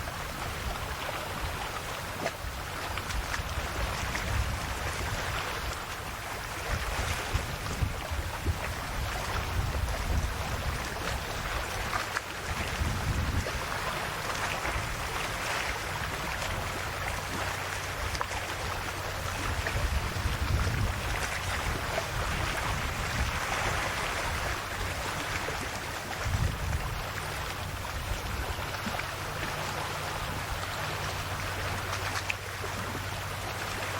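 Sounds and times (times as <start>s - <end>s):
sea waves washing on shore: 0.0s - 33.9s.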